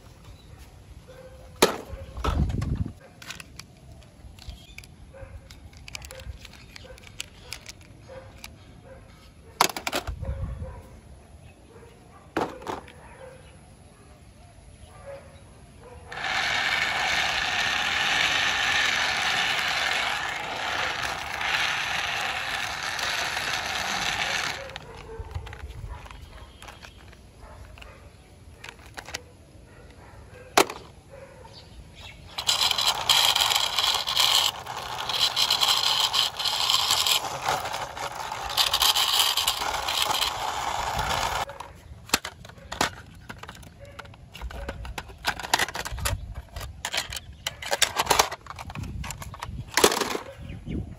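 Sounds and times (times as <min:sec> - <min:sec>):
toy wheels rolling on concrete: 0:01.1 - 0:10.3, 0:12.4 - 0:13.1, 0:15.9 - 0:31.0, 0:32.0 - 0:50.7.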